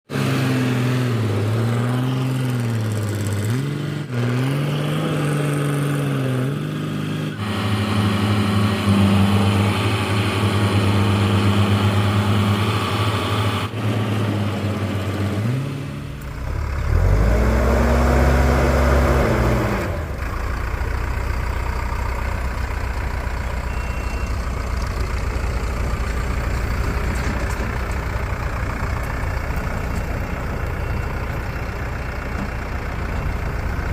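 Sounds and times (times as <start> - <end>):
heavy vehicle engine revving: 0.1 - 33.9.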